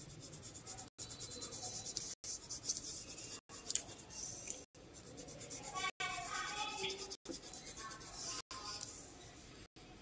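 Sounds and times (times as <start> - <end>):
pencil scratching on paper: 0.0 - 8.9.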